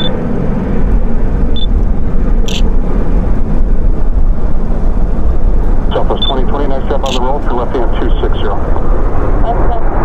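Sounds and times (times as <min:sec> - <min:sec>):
airplane rolling on runway: 0:00.0 - 0:10.0.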